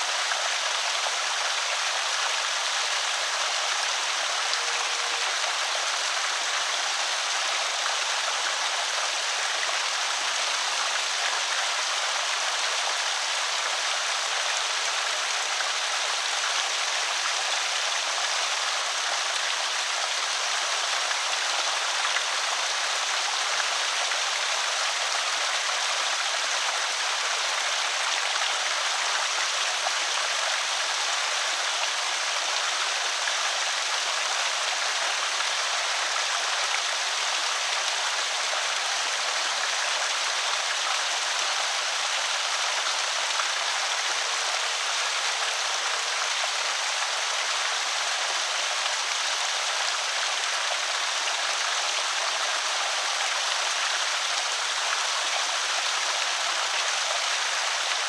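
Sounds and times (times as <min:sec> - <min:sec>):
water pouring over spillway: 0:00.0 - 0:58.0.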